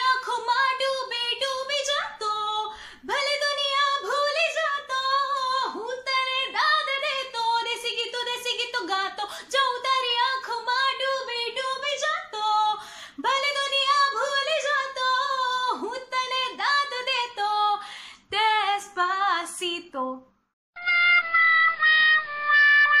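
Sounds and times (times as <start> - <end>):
woman singing unaccompanied: 0.0 - 20.3.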